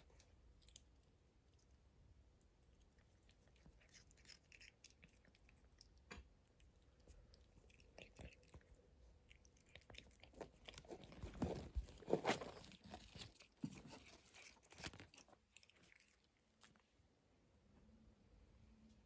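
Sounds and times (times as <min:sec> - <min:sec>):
cat chewing grass: 0:00.0 - 0:17.0.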